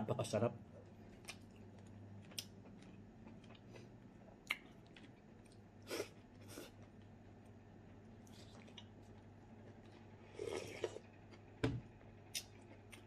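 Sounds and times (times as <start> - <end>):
faint chewing: 0.8 - 11.5.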